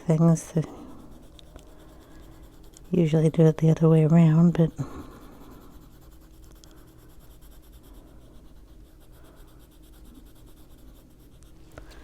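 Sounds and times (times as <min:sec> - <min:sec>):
colored pencil scratching on paper: 0:00.0 - 0:12.0.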